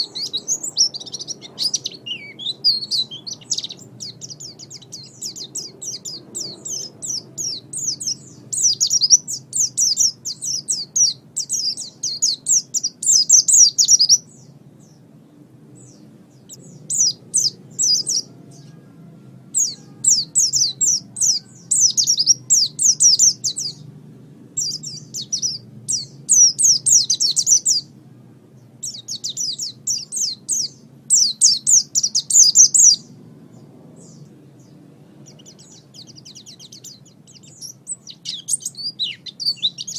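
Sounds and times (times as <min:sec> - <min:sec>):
bird high twittering song: 0:00.0 - 0:39.9
faint low hum: 0:00.0 - 0:39.9.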